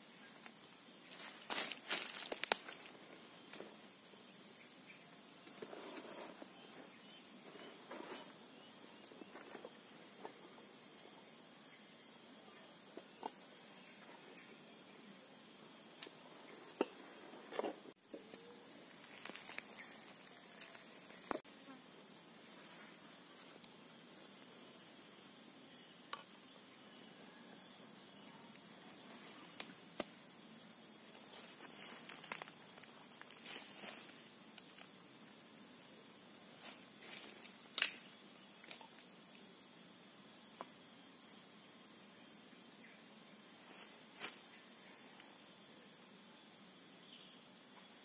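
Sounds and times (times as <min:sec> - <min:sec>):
insect drone: 0:00.0 - 0:48.0.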